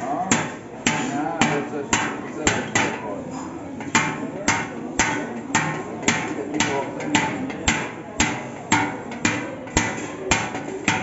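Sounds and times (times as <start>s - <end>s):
hammer striking copper: 0.1s - 11.0s.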